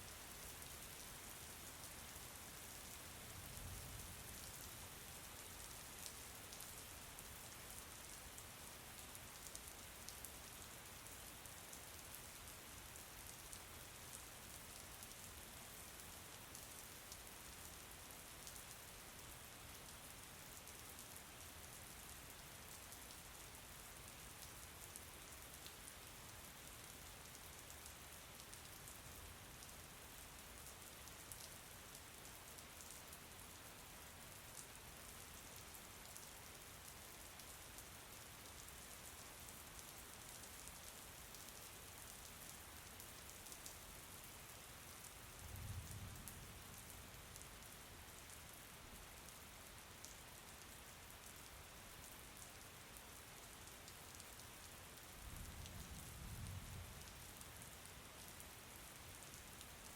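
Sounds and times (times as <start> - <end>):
faint rain: 0.0 - 59.9.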